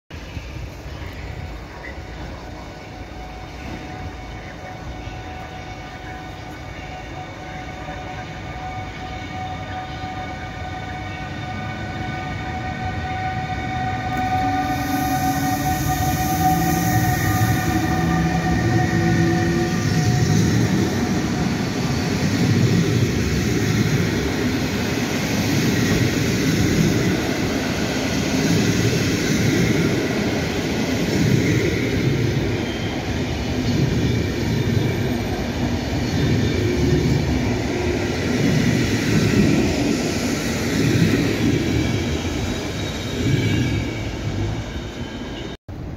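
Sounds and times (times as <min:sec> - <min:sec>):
electric locomotive whine: 0:00.1 - 0:45.9.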